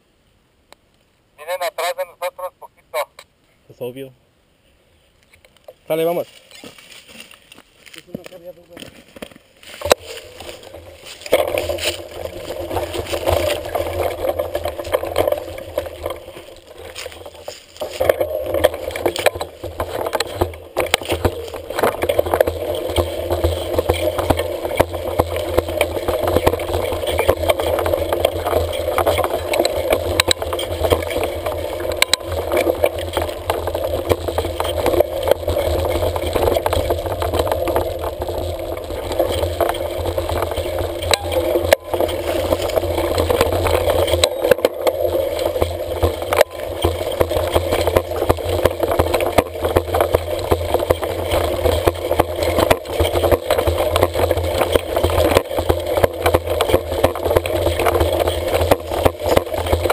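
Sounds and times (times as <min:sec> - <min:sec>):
mountain bike rattling over dirt: 0:05.7 - 0:59.9.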